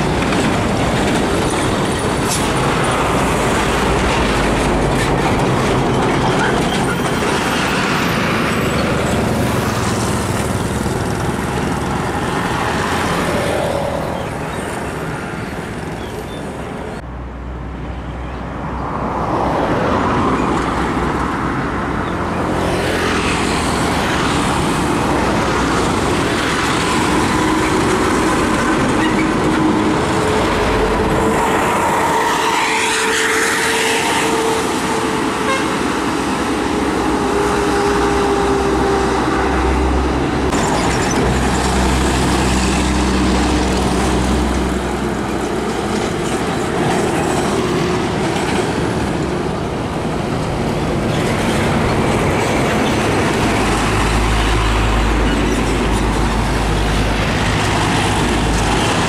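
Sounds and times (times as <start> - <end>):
heavy diesel trucks passing: 0.0 - 59.0.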